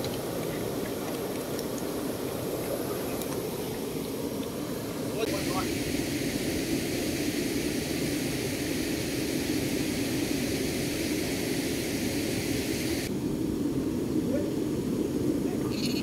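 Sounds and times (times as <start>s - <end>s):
floodwater rushing around waders: 0.0s - 13.1s.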